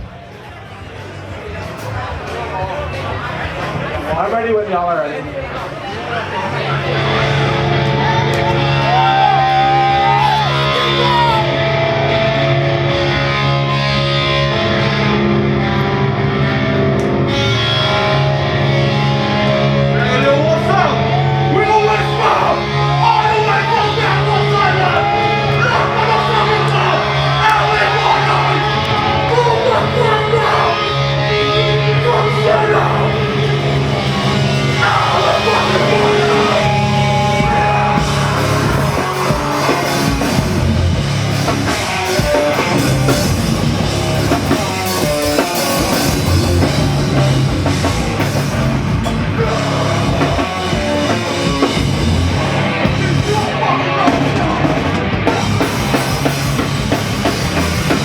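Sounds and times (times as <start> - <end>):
heavy rock music with singing: 5.4 - 58.0.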